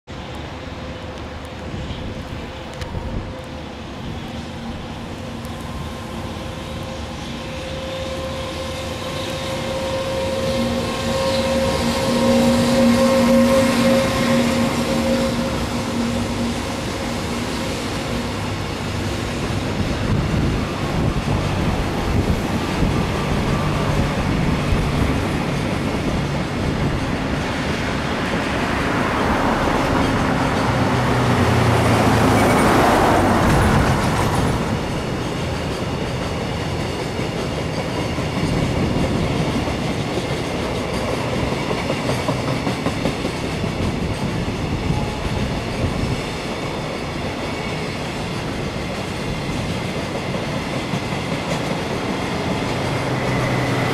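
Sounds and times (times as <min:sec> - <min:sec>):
electric locomotive hum: 0:00.1 - 0:53.9.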